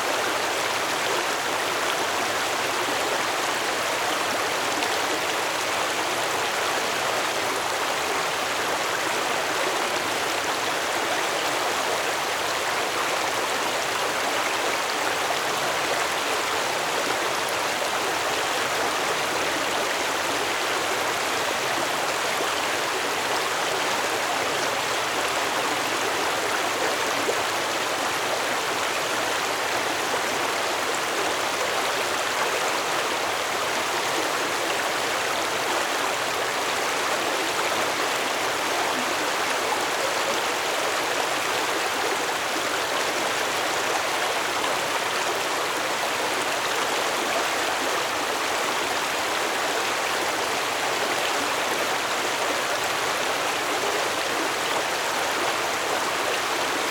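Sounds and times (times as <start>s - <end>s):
stream water flowing over rocks: 0.0s - 56.9s.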